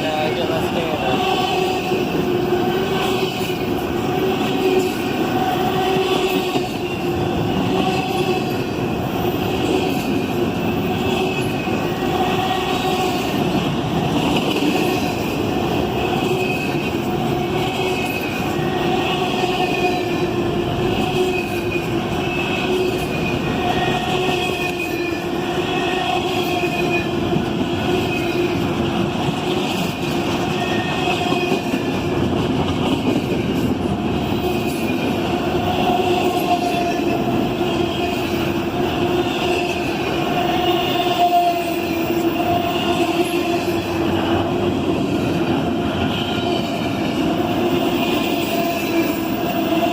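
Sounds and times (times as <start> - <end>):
train cars rumbling on rails: 0.0 - 49.9.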